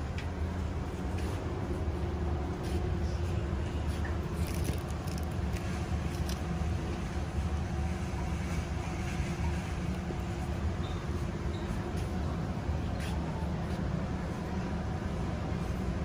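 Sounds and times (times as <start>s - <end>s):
store background rumble: 0.0s - 16.0s.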